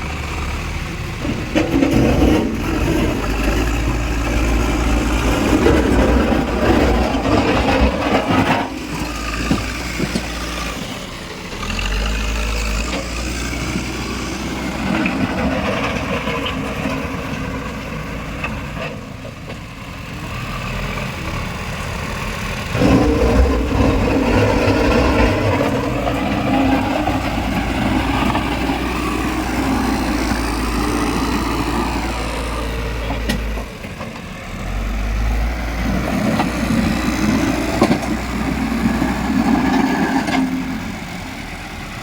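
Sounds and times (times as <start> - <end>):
diesel engine working under load: 0.0 - 42.0.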